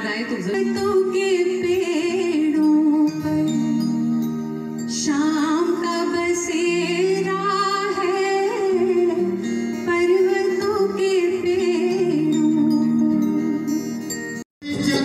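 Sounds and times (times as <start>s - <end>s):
woman singing into a microphone: 0.0s - 14.2s
guitar: 0.0s - 15.0s.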